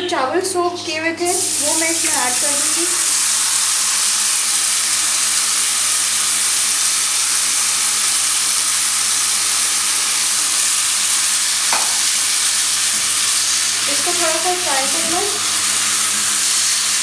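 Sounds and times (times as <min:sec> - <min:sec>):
rice sizzling in hot oil: 0:01.3 - 0:17.0.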